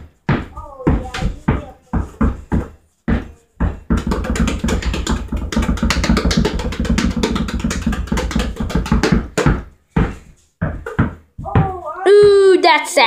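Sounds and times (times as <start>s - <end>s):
basketball bouncing on carpet: 0.2s - 12.4s.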